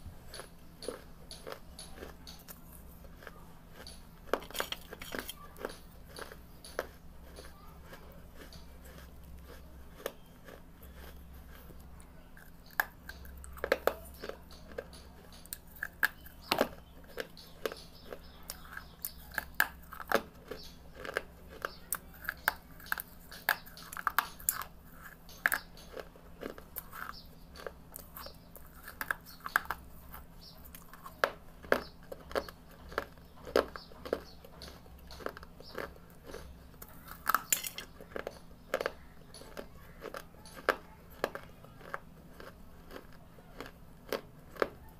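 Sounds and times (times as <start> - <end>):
person chewing brick crunching: 0.0 - 44.9.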